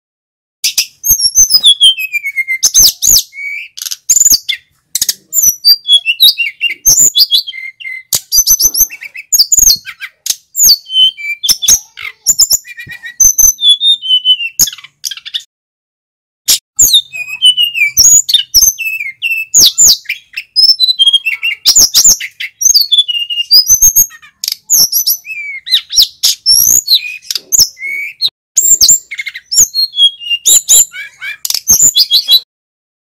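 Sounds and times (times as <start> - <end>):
bird singing chirps and trills: 0.6 - 15.5, 16.8 - 32.5.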